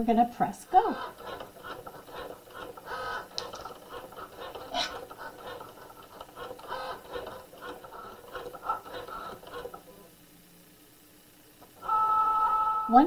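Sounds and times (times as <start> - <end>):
cutting machine motor whirring: 0.7 - 10.1, 11.6 - 13.0.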